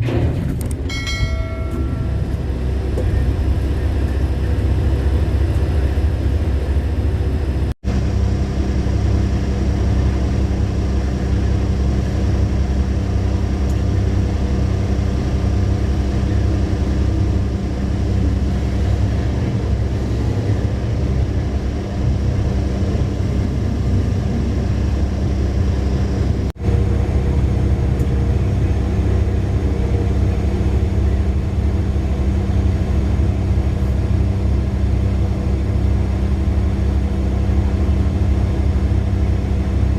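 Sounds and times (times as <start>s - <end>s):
diesel truck engine rumbling: 0.0s - 39.9s.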